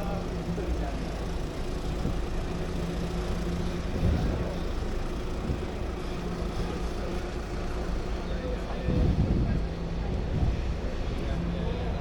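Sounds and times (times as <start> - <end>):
street traffic engine hum: 0.0 - 12.0.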